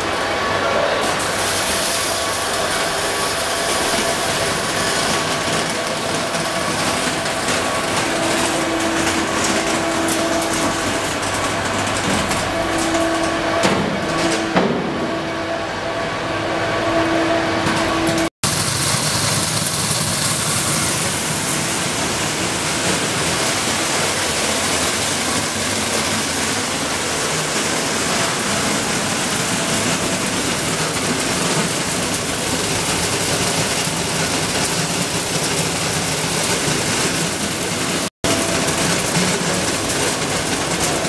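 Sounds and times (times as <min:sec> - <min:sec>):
machine noise: 0:00.0 - 0:41.0
plastic flakes pouring hiss: 0:01.0 - 0:13.2, 0:18.4 - 0:41.0.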